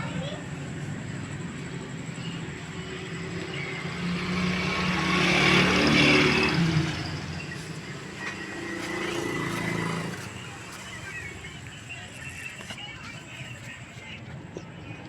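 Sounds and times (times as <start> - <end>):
road vehicle passing: 0.0 - 14.2.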